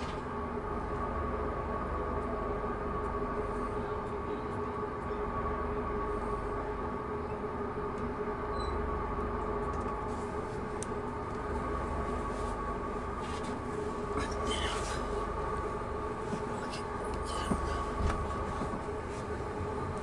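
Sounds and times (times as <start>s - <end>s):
train mechanical hum: 0.0s - 20.0s.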